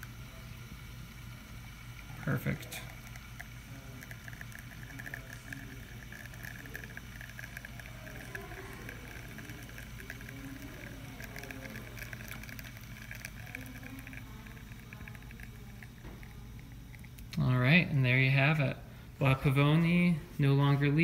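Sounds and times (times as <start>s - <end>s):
espresso streaming into cup: 0.0s - 21.0s
low steady hum: 0.0s - 21.0s.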